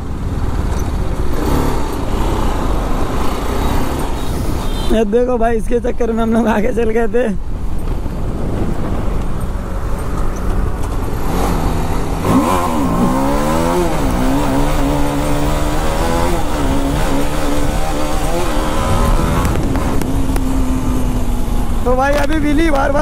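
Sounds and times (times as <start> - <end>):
motorcycle engine revving: 0.0 - 4.9, 8.3 - 23.0.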